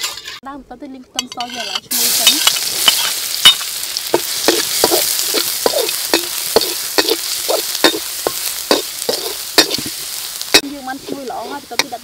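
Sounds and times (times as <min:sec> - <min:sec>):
metal ladle scraping wok: 0:00.0 - 0:00.4, 0:01.3 - 0:12.0
garlic sizzling in oil: 0:01.6 - 0:12.0.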